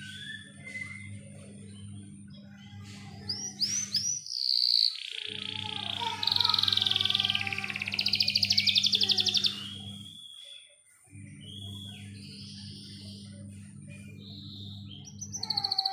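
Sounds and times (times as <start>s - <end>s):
low steady hum: 0.0s - 4.5s, 5.2s - 10.4s, 11.1s - 15.9s
canary singing: 0.0s - 15.9s.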